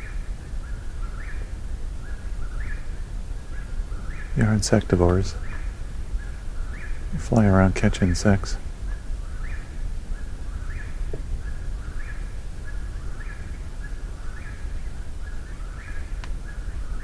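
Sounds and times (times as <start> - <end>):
low steady rumble: 1.5 - 17.0.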